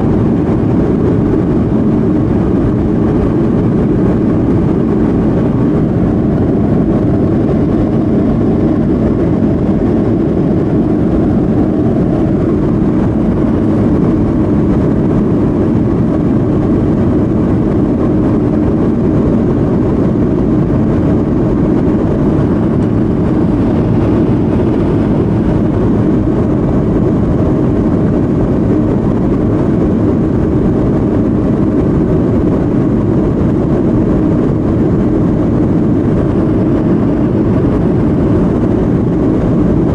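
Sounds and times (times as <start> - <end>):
jet engine rumble in cabin: 0.0 - 39.9
rushing air: 0.0 - 39.9.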